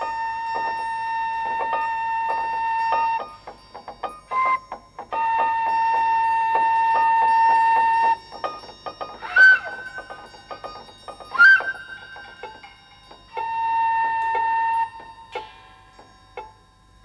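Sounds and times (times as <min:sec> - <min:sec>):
bright hits with ringing tone: 0:00.0 - 0:17.0.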